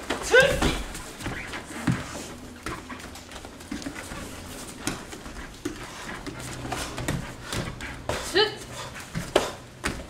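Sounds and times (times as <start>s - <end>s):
thuds and slaps on padded mat: 0.0s - 8.4s, 9.0s - 10.0s.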